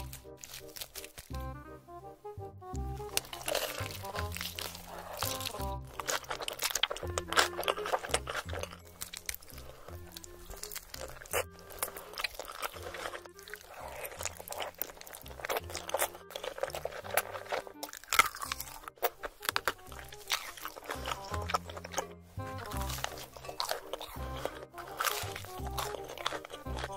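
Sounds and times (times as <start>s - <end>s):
chewing with sharp crunches: 0.0s - 1.8s, 2.6s - 26.9s
background music with bass line: 0.0s - 26.9s.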